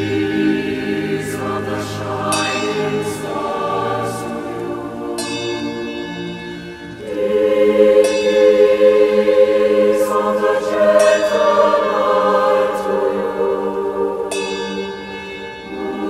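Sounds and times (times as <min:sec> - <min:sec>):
choir singing long notes: 0:00.0 - 0:16.0.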